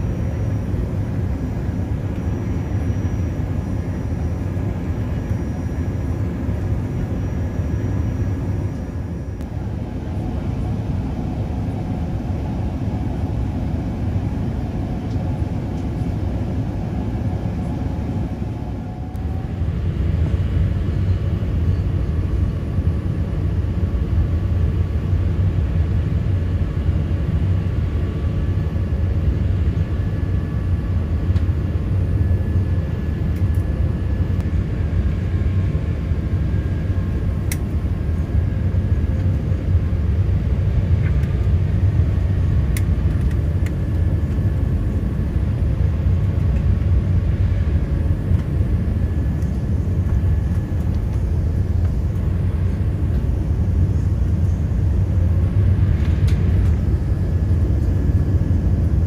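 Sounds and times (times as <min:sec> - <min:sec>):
aircraft engines and airflow rumble: 0:00.0 - 0:59.0
faint steady whine: 0:00.0 - 0:59.0.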